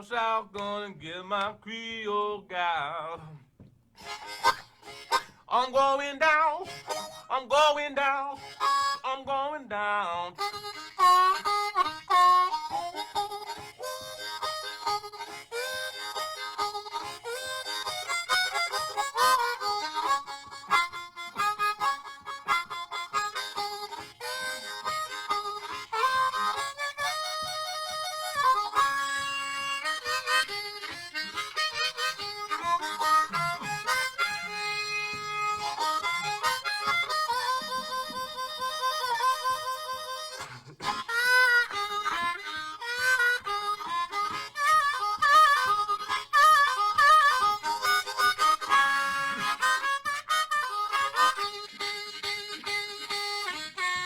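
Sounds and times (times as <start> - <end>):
blues harmonica playing: 4.0 - 54.0
rhythmic backing music: 10.4 - 54.0.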